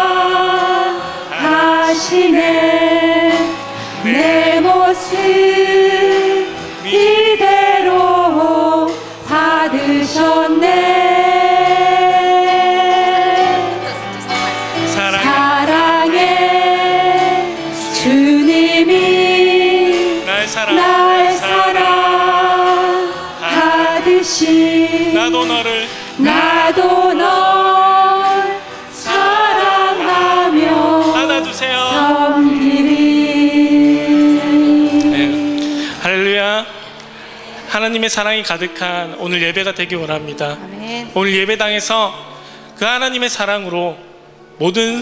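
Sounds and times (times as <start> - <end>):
group singing into microphones: 0.0 - 38.1.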